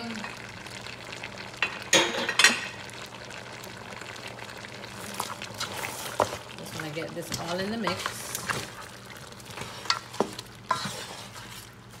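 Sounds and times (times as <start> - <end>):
curry simmering and sizzling: 0.0 - 12.0.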